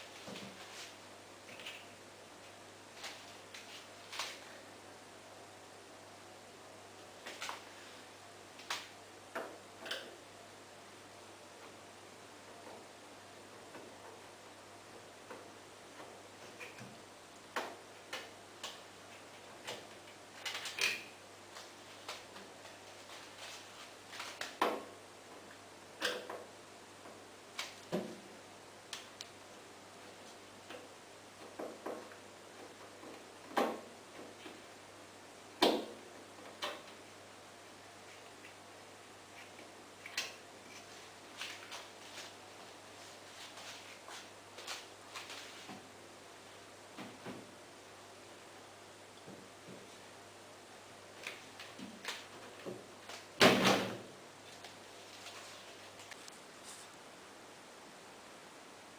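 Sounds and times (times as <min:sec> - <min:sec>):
faint steady hum: 0:00.0 - 0:58.9.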